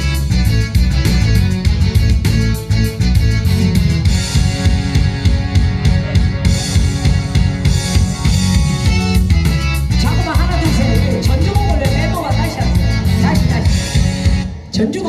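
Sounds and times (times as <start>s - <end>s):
upbeat instrumental backing music: 0.0s - 15.0s.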